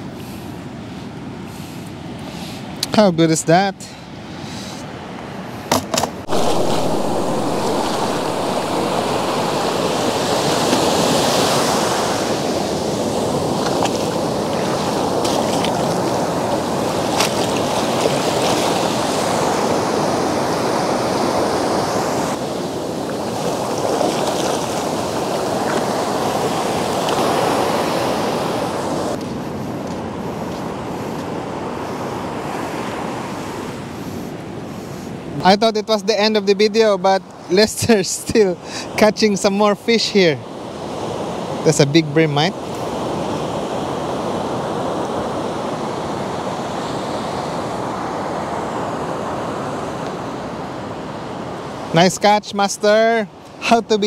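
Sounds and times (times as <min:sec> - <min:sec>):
ocean surf washing up beach: 0:00.0 - 0:54.0.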